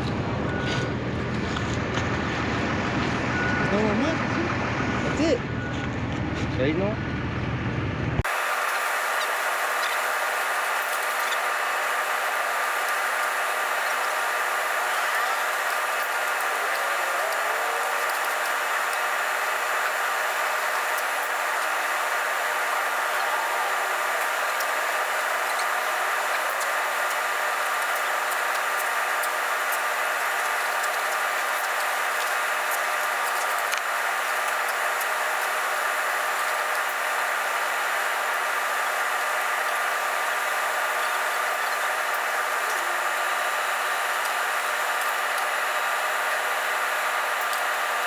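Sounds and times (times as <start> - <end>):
construction machinery droning: 0.0 - 48.0.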